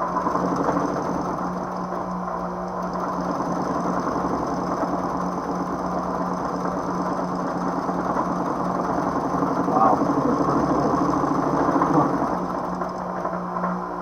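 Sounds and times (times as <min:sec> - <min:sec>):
industrial sewing machine running: 0:00.0 - 0:13.9.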